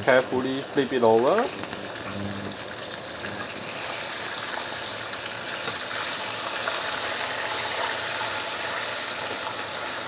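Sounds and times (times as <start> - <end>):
hot oil sizzling: 0.0 - 10.0.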